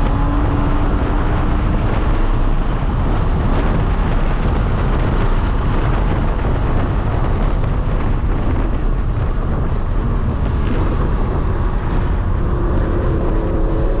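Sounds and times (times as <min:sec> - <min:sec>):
car engine accelerating: 0:00.0 - 0:14.0
heavy wind buffeting: 0:00.0 - 0:14.0
road rumble: 0:00.0 - 0:14.0.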